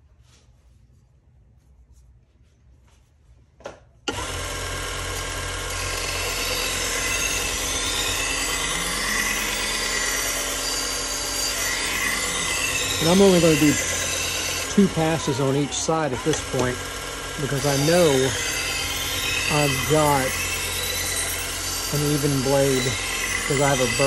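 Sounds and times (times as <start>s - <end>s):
belt sharpener grinding knife: 4.2s - 24.0s.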